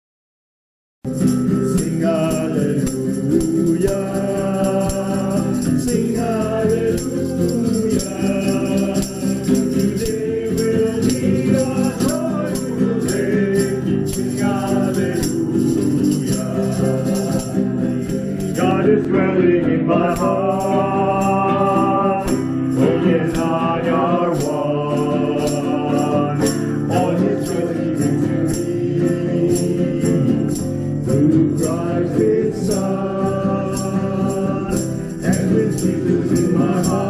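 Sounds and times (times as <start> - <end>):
shaker rattle: 1.1 - 19.3, 20.0 - 37.0
instrumental accompaniment: 1.1 - 37.0
group singing a hymn: 1.7 - 37.0.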